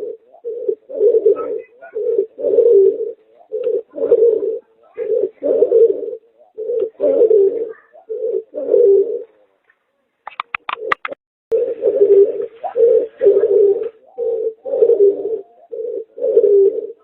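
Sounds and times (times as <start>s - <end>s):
dove cooing: 0.0s - 9.6s, 10.4s - 17.0s.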